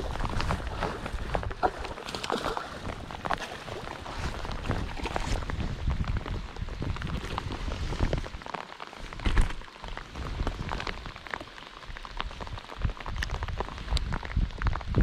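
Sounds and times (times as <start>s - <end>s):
rain falling on pond: 0.0s - 15.0s.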